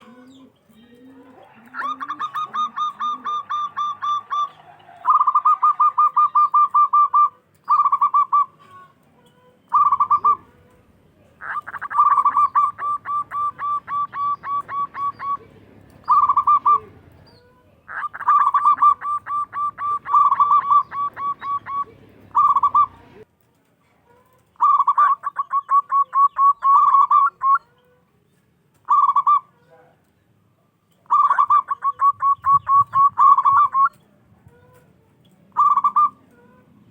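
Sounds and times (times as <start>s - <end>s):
dove cooing: 0.0s - 23.2s, 24.2s - 28.0s, 28.8s - 29.7s, 31.0s - 36.9s.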